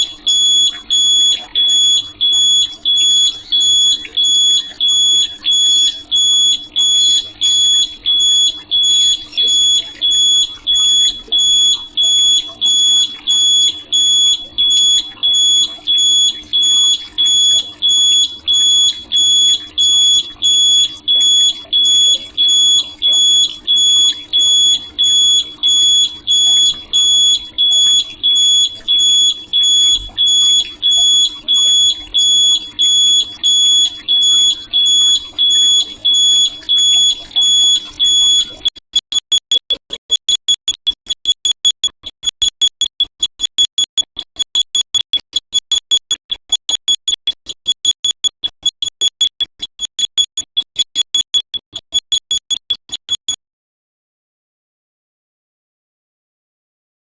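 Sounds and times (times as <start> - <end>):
high-pitched alarm beeps: 0.0 - 53.4.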